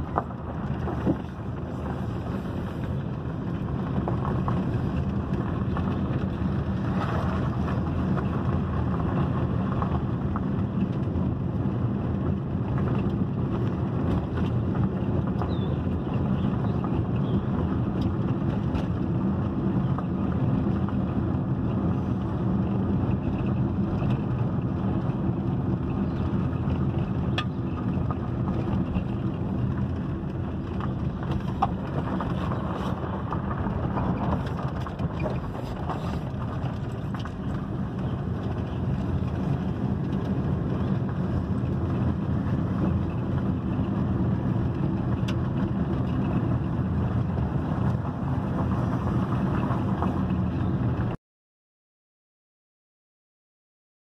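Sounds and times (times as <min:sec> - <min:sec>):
tyre and engine rumble: 0:00.0 - 0:51.2.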